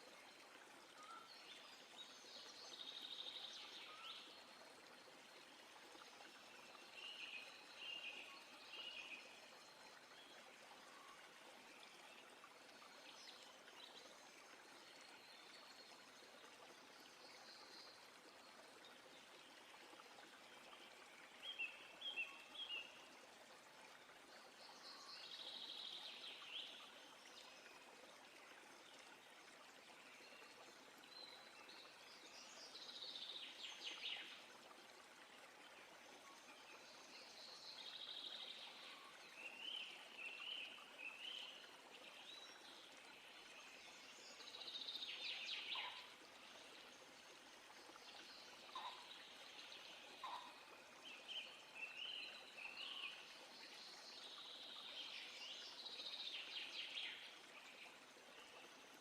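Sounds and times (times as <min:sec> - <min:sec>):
flowing stream water: 0:00.0 - 0:59.0.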